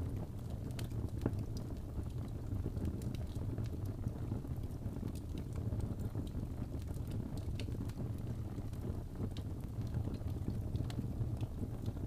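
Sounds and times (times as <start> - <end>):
fire flames rumbling: 0.0 - 12.0
wood crackling and popping: 0.0 - 12.0.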